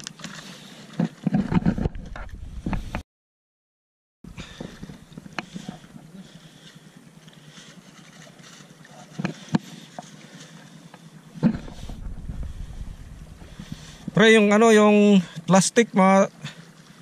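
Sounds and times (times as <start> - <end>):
sea water on rocky shore: 0.0 - 3.0, 4.3 - 17.0
wind: 0.0 - 3.0, 4.2 - 17.0.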